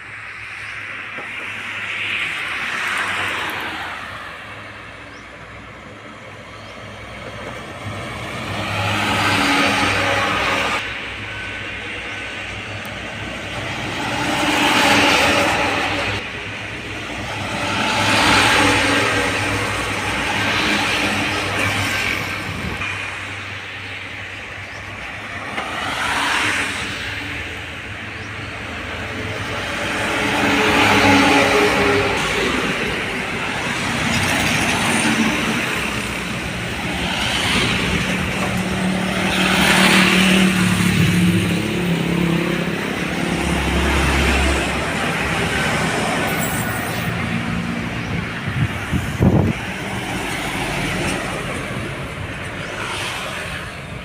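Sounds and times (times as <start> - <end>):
vehicles driving past: 0.0 - 54.0.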